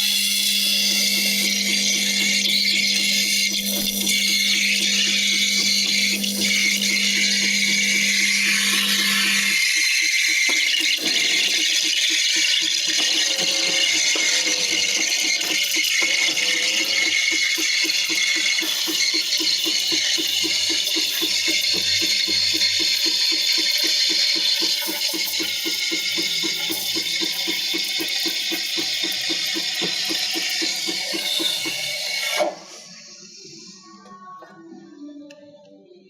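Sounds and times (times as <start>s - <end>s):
coffee machine rattling buzz: 0.0s - 33.1s.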